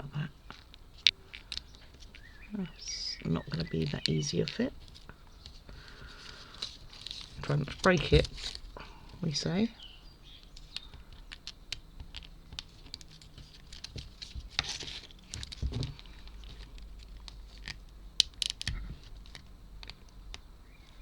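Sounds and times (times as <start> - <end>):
wooden pieces clicking and tapping: 0.4 - 9.6, 10.4 - 21.0.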